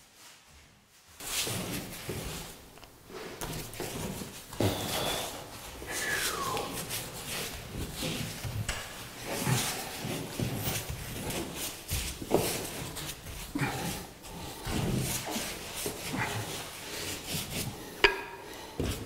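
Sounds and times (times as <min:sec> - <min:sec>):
paintbrush swishing on wall: 0:00.0 - 0:18.0.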